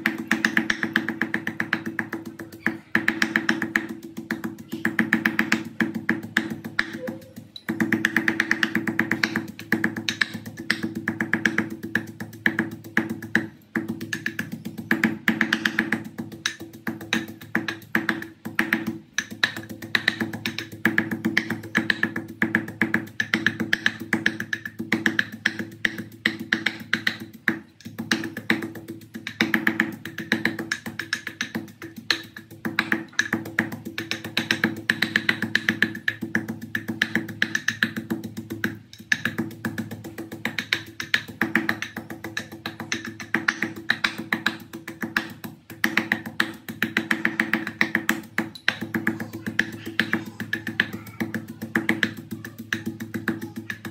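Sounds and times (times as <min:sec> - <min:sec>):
percussion beat: 0:00.0 - 0:53.9.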